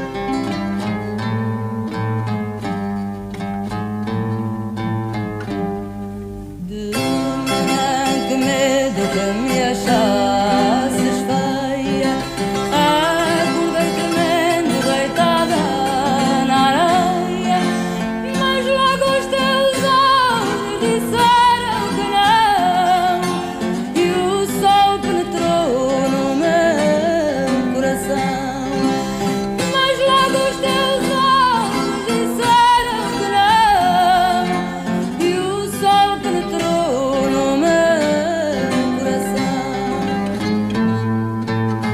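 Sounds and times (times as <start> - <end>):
plucked guitars: 0.0 - 41.9
person singing ornamented melody: 6.6 - 40.6.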